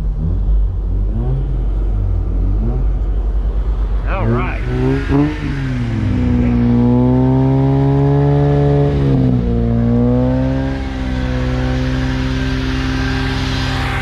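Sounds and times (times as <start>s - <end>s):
rotary engine at raised revs: 0.0s - 14.0s.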